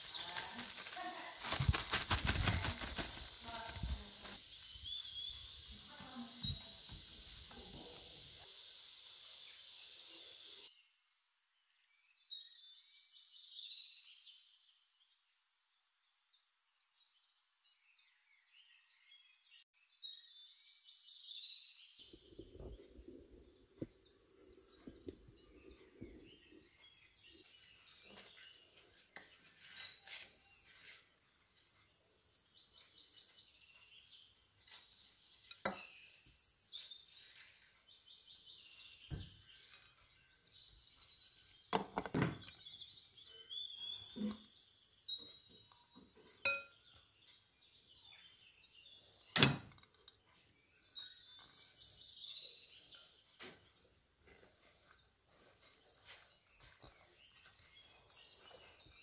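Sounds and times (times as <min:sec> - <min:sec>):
birds chirping: 0:00.0 - 0:11.0, 0:16.6 - 0:59.0.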